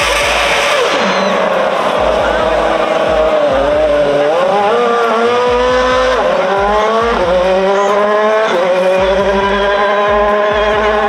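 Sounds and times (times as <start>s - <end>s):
racing car engine revving: 0.0s - 11.0s.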